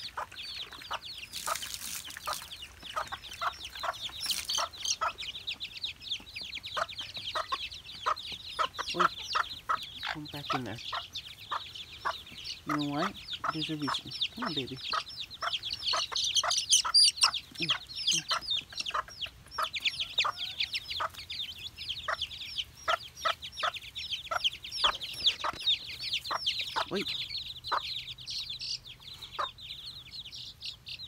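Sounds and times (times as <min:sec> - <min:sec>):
chicks peeping: 0:00.0 - 0:31.0
hen clucking: 0:00.0 - 0:31.0.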